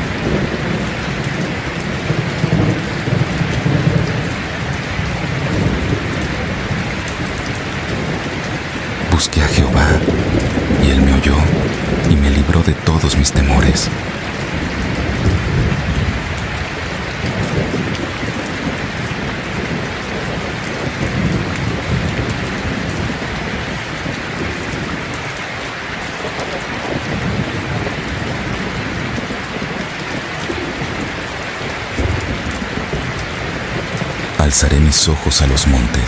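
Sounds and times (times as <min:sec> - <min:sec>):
thunder rumbling: 0:00.0 - 0:12.8, 0:13.6 - 0:25.2, 0:26.2 - 0:36.0
steady rain: 0:00.0 - 0:36.0.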